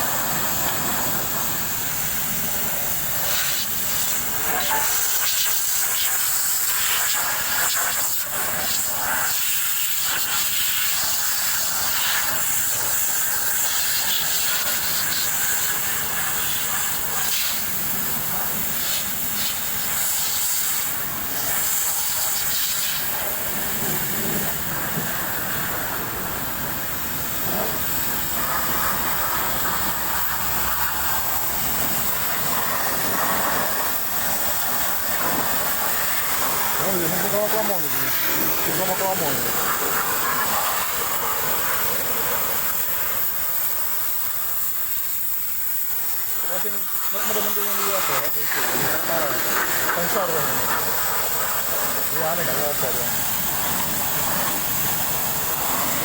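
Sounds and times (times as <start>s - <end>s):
high-pressure spray gun hissing: 0.0s - 56.0s.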